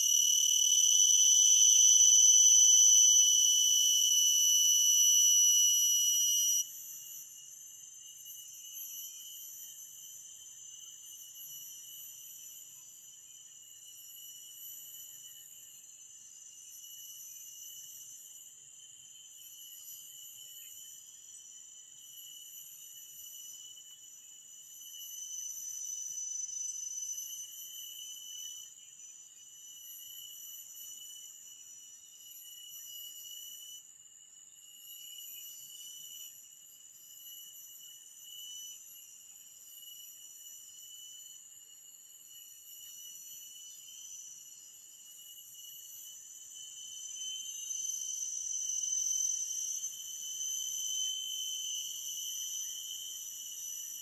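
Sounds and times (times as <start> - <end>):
shrill forest insects chorus: 0.0 - 54.0.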